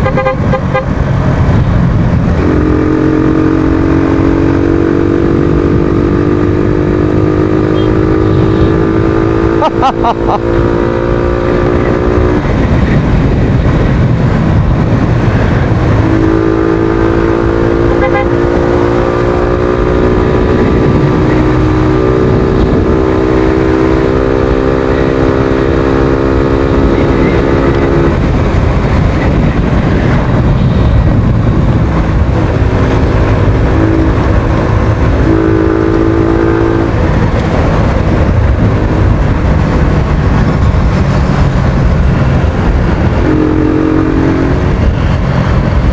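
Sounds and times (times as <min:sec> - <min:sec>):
motorcycle engine running: 0:00.0 - 0:45.9
wind noise on microphone: 0:00.0 - 0:45.9.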